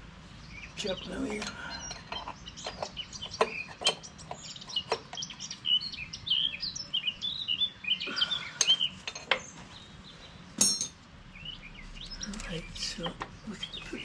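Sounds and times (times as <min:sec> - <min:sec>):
small birds chirping: 0:00.3 - 0:14.0.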